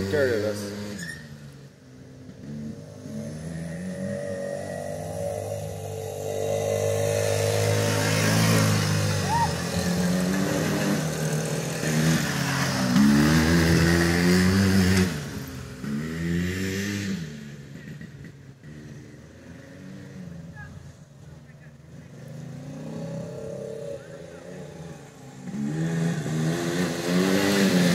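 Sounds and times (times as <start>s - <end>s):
atv engines revving: 0.0s - 27.9s.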